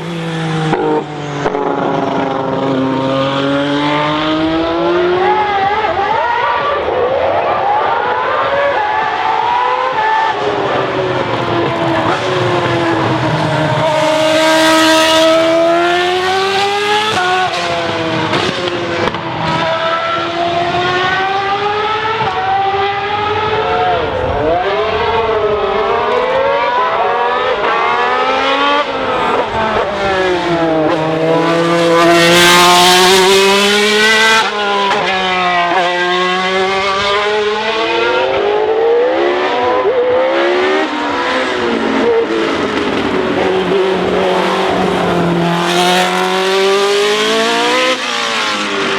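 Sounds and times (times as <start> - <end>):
racing car engines revving past: 0.0 - 48.9.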